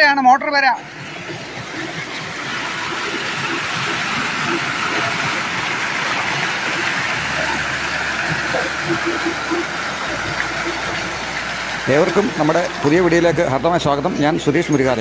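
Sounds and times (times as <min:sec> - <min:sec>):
pipe outlet pouring water: 0:00.8 - 0:15.0
stream water rushing: 0:00.8 - 0:15.0.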